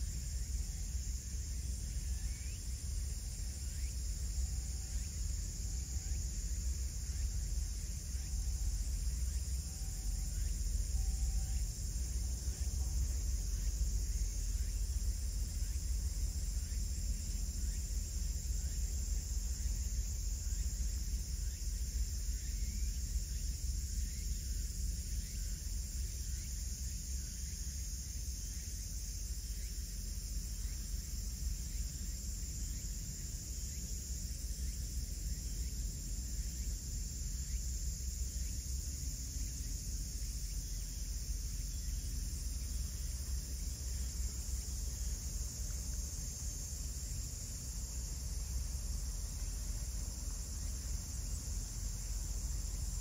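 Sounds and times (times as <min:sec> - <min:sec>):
constant low rumble: 0:00.0 - 0:53.0
insects chorus: 0:00.0 - 0:53.0.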